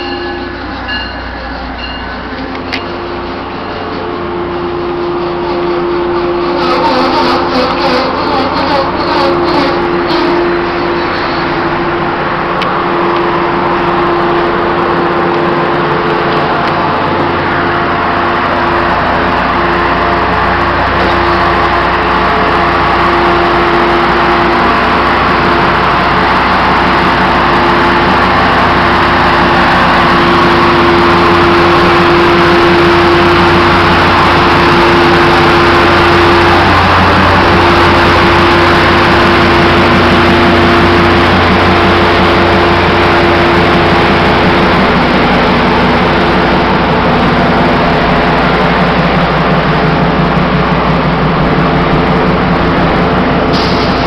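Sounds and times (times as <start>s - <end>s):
locomotive diesel engines running: 0.0s - 54.0s.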